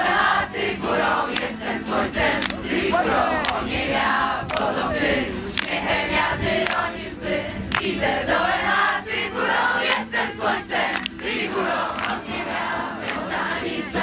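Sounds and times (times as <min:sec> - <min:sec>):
crowd singing together: 0:00.0 - 0:14.0.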